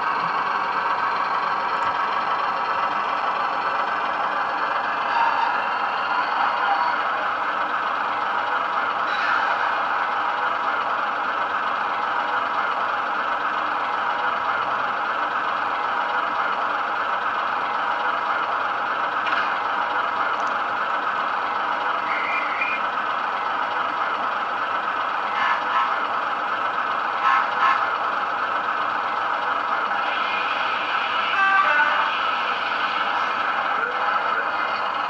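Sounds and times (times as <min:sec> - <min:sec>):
model train engine idling sound: 0:00.0 - 0:35.0.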